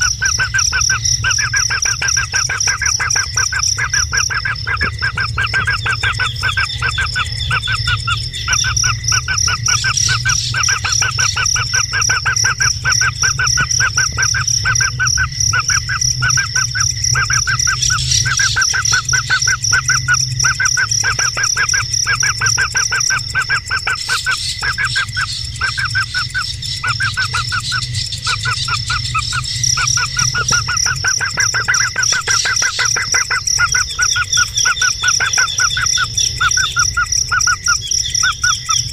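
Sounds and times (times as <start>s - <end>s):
bird calling repeated notes: 0.0s - 38.9s
steady high-pitched whine: 0.0s - 38.9s.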